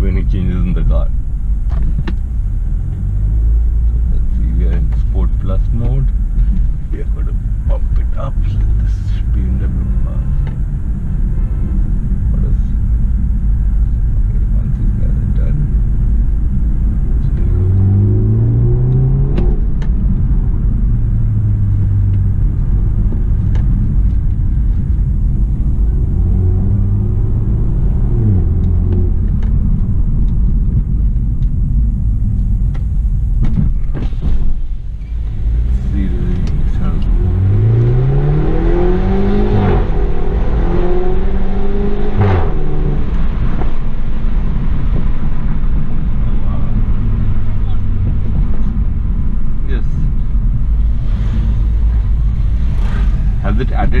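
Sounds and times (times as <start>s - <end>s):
car engine running steadily: 0.0s - 54.0s
road rumble: 0.0s - 54.0s.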